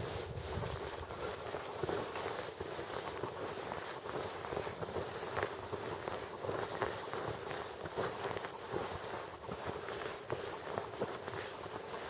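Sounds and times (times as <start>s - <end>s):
footsteps in deep snow: 0.0s - 12.0s
steady background hiss: 0.0s - 12.0s.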